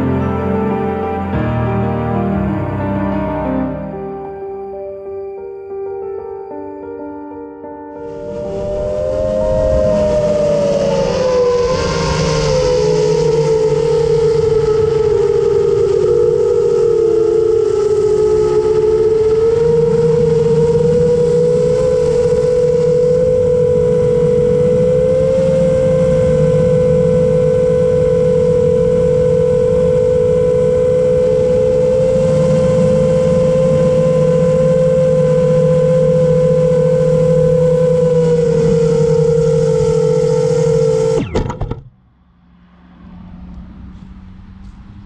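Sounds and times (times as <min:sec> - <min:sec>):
drone propellers whining: 0:00.0 - 0:07.0, 0:07.9 - 0:45.0.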